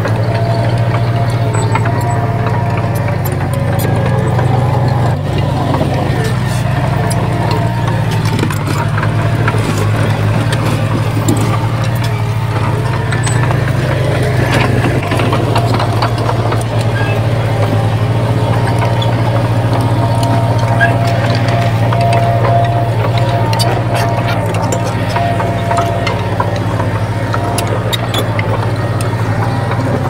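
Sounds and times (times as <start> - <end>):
clanks and knocks: 0.0 - 30.0
diesel engine running: 0.0 - 30.0.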